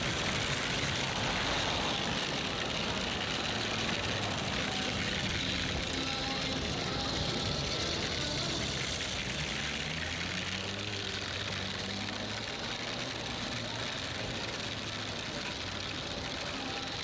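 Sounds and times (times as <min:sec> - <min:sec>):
city street traffic: 0:00.0 - 0:17.0
vehicle engine humming: 0:00.0 - 0:17.0.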